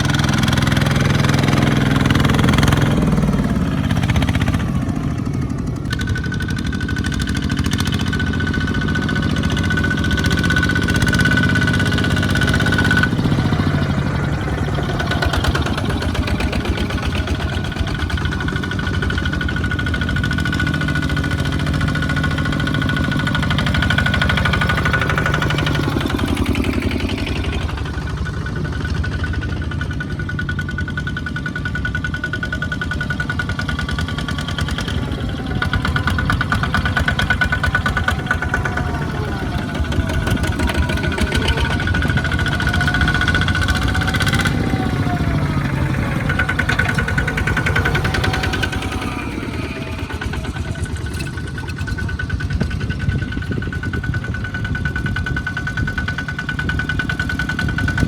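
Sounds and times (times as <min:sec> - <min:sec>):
tractor engine chugging: 0:00.0 - 0:58.0.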